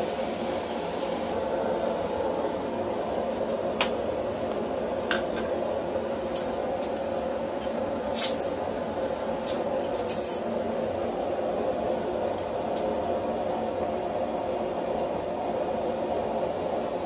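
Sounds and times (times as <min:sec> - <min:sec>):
workshop background roar: 0:00.0 - 0:17.0.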